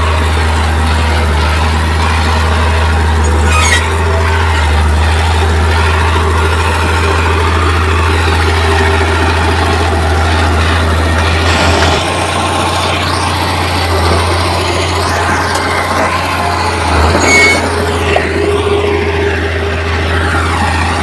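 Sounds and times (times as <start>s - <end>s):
heavy diesel engine humming: 0.0s - 21.0s.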